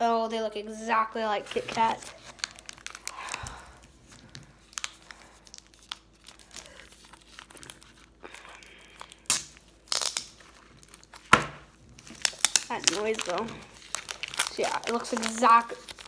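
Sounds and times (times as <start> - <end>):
wrapper crinkling: 1.3 - 16.0
wrapper ripping: 1.4 - 16.0.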